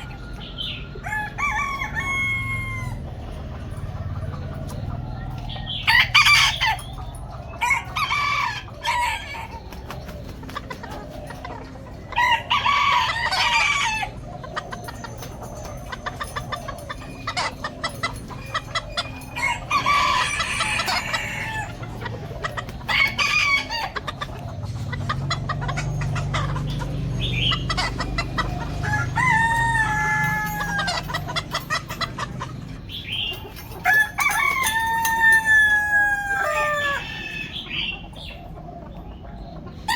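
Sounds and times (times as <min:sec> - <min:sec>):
chickens clucking: 0:00.0 - 0:39.9
roosters crowing: 0:00.0 - 0:39.9.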